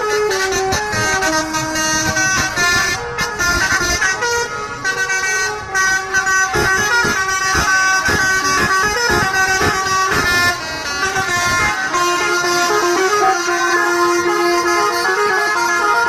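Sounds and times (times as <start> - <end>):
multi-note bus air horns: 0.0 - 16.0.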